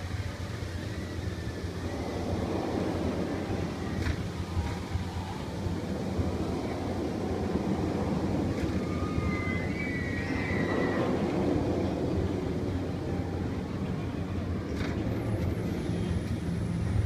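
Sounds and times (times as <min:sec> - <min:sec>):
ride car rumbling on track: 0:00.0 - 0:17.0.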